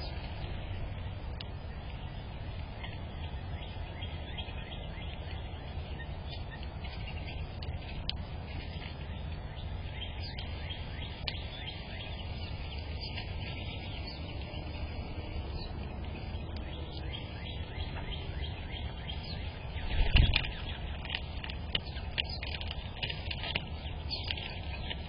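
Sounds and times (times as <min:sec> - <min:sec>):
low background rumble: 0:00.0 - 0:25.0
small birds chirping: 0:00.0 - 0:25.0.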